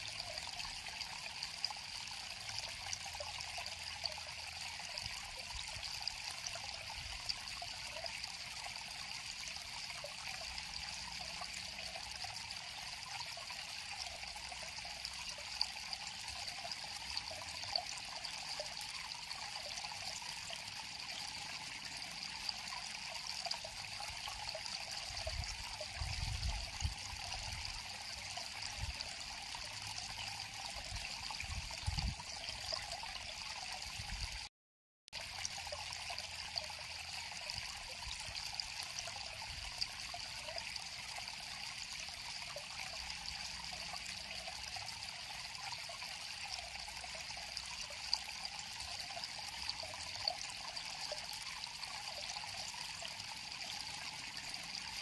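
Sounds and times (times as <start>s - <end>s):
river water flowing: 0.0s - 34.3s, 35.2s - 55.0s.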